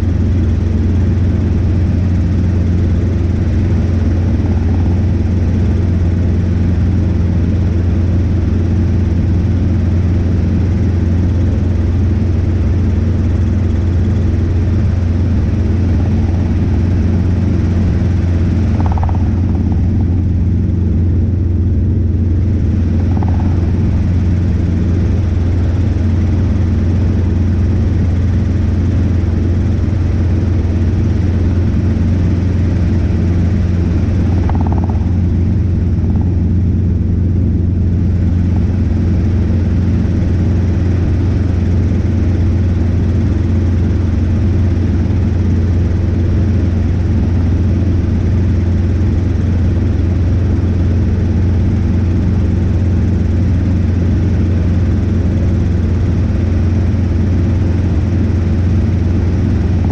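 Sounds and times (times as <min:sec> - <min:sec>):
helicopter rotors and engine drone: 0:00.0 - 0:59.9.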